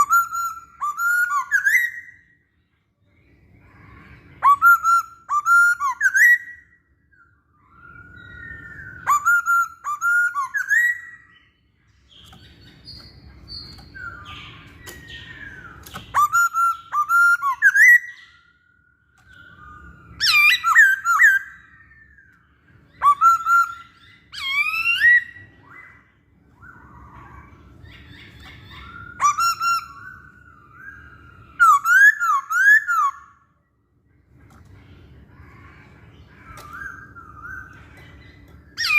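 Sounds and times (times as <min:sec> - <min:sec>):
bird singing whistled phrases: 0:00.0 - 0:02.4, 0:03.6 - 0:11.6, 0:12.2 - 0:33.5, 0:36.3 - 0:38.9.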